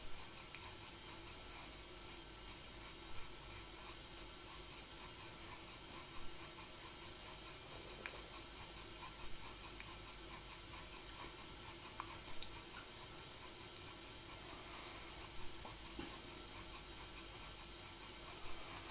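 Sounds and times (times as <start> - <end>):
kettle simmering: 0.0 - 18.9.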